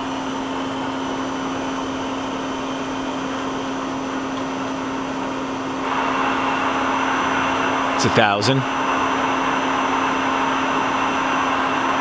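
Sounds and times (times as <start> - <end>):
machine tool humming: 0.0 - 12.0.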